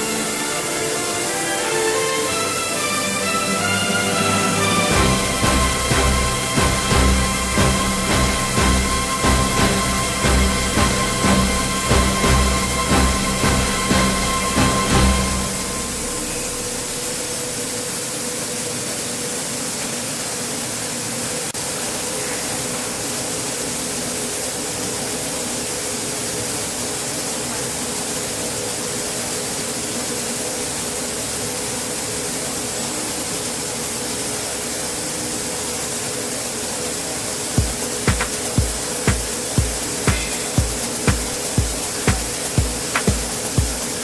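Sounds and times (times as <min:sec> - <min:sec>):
hiss of blasting air: 0:00.0 - 0:44.0.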